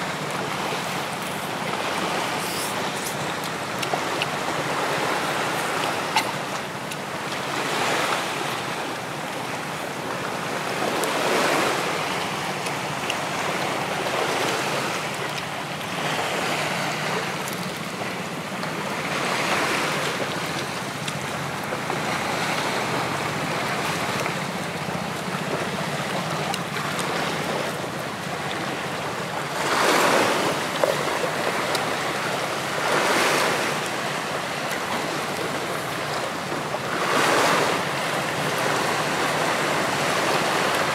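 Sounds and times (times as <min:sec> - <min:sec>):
surf washing onto beach: 0:00.0 - 0:40.9
wind: 0:00.0 - 0:40.9.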